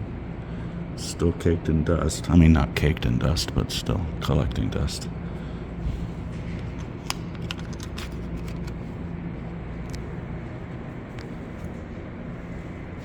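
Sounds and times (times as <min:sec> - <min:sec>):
low hum of station passage: 0:00.0 - 0:13.0.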